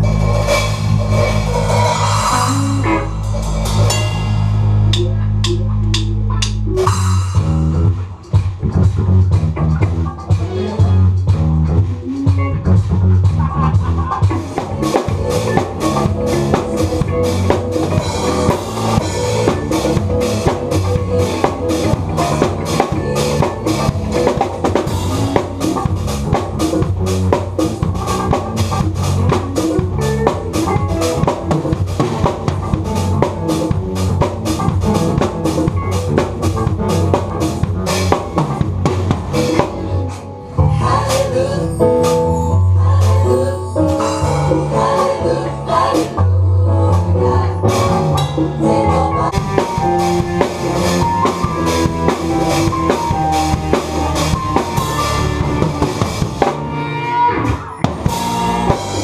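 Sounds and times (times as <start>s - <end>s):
drum kit: 0.0s - 59.0s
electric guitars: 0.0s - 59.0s
rock band playing live: 0.0s - 59.0s.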